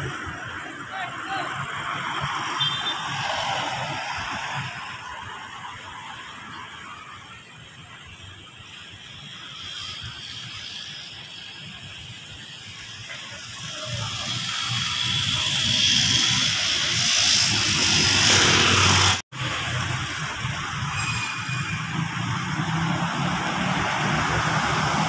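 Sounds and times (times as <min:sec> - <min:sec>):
street traffic noise: 0:00.0 - 0:25.0
vehicle engine and tyre hiss: 0:00.0 - 0:25.0.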